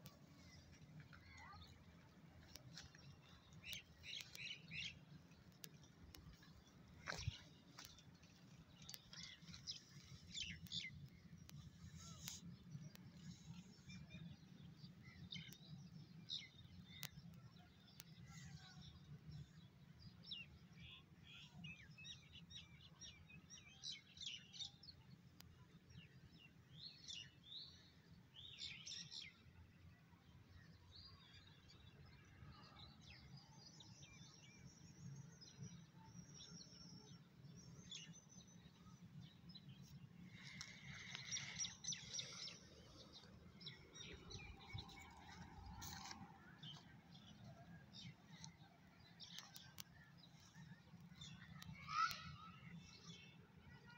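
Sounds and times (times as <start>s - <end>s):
small birds chirping: 0.0s - 29.5s, 32.8s - 53.9s.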